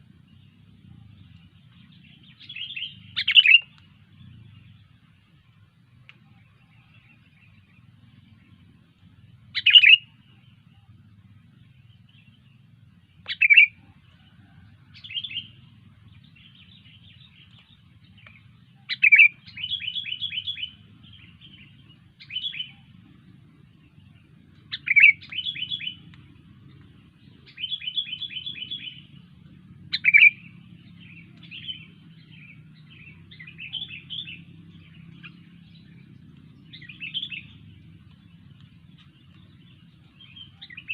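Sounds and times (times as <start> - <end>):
rapid repeated bird notes: 0.0 - 40.9
soft bird chatter: 0.0 - 40.9
bulbul calling: 0.3 - 5.0, 9.4 - 11.0, 11.7 - 40.9.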